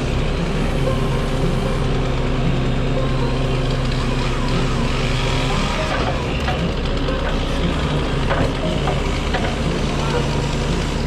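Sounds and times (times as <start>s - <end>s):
hydraulic grapple working: 0.0s - 11.0s
truck engine running: 0.0s - 11.0s.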